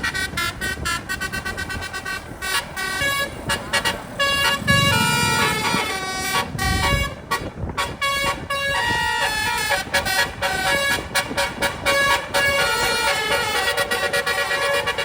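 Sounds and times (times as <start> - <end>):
multi-trumpet air horn tune: 0.0 - 15.0.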